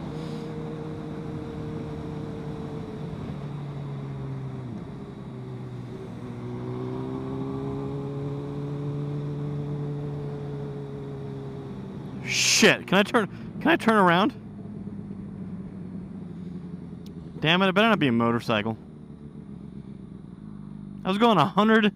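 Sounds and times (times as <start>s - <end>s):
motorcycle engine running: 0.0s - 12.2s, 14.4s - 21.8s.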